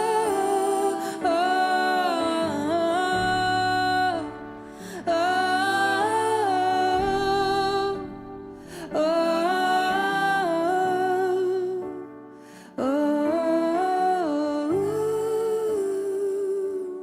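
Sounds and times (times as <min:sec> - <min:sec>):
woman singing wordless notes: 0:00.0 - 0:12.0, 0:12.6 - 0:17.0.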